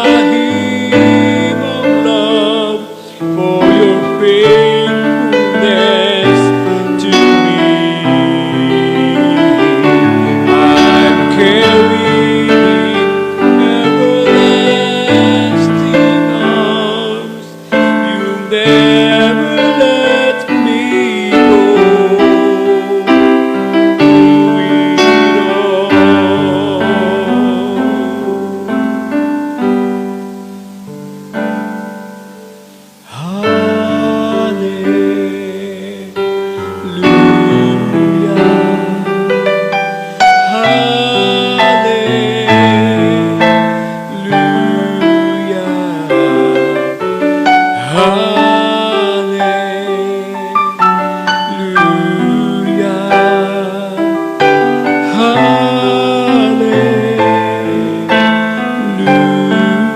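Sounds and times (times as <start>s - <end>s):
electric piano chords: 0.0s - 59.9s.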